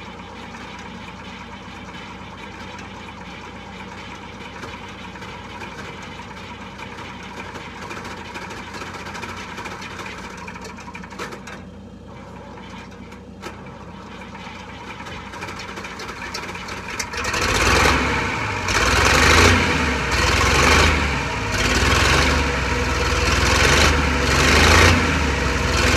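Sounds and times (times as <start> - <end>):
tractor diesel engine surging: 0.0 - 25.9.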